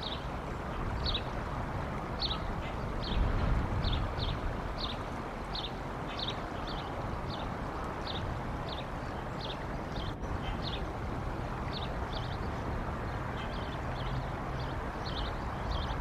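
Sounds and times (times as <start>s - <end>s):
wind noise: 0.0s - 16.0s.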